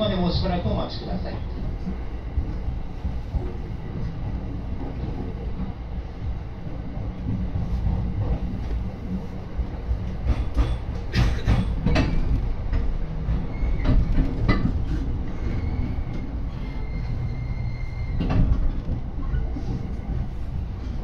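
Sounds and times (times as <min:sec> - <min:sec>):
train running gear rumble: 0:00.0 - 0:21.0.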